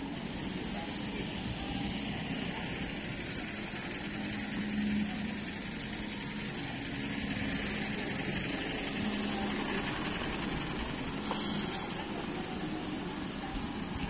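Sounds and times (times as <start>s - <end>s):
steady background rush: 0.0s - 14.0s
vehicle engine humming: 0.0s - 14.0s.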